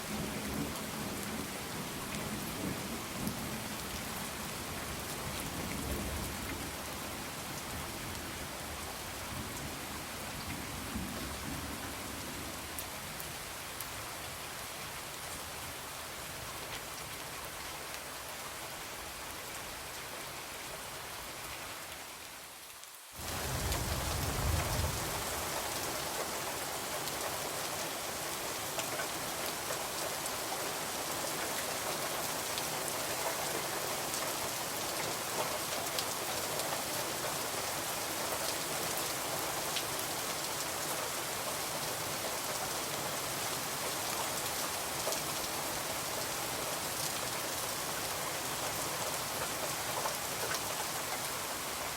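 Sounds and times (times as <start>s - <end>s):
rain falling on a window: 0.0s - 51.9s.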